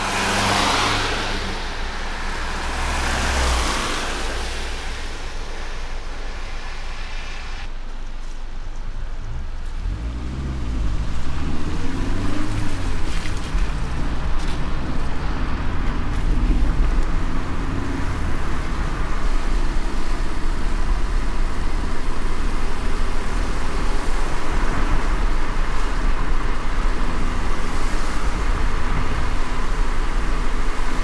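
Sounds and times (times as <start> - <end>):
car road rumble: 0.0 - 31.0
tyres hissing on wet road: 0.0 - 31.0.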